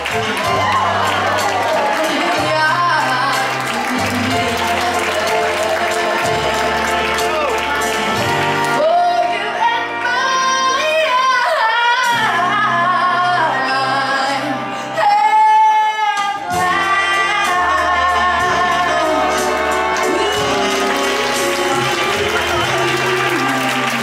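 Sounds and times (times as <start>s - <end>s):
band accompaniment: 0.0s - 24.0s
woman singing: 0.0s - 24.0s.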